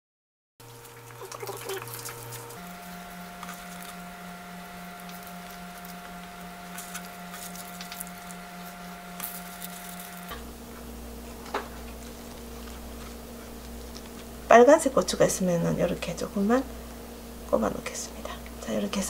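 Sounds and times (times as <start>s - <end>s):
steady hum: 0.6s - 19.0s.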